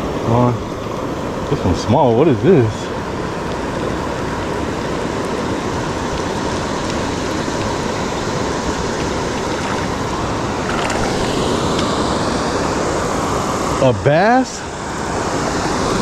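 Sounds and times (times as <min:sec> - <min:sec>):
waterfall and river rushing: 0:00.0 - 0:16.0.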